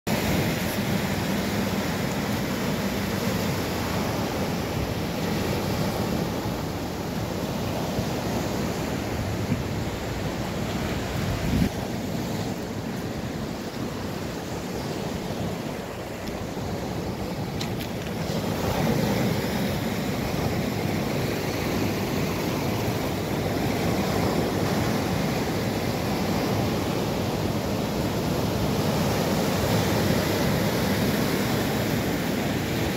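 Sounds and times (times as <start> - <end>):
surf washing over pebble shore: 0.1 - 32.9.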